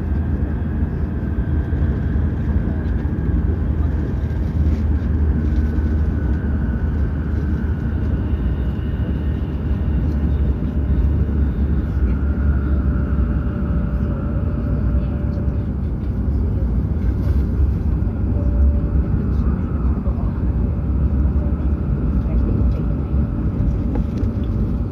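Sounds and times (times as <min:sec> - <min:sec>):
train running noise from inside: 0:00.0 - 0:24.9.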